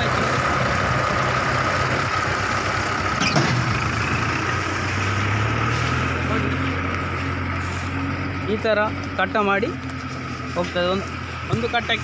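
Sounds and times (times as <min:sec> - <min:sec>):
baler machine drone: 0:00.0 - 0:12.0.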